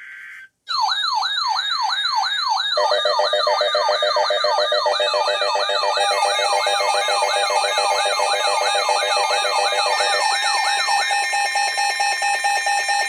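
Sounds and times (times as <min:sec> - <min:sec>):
electronic alert siren sweeping: 0:00.7 - 0:13.0.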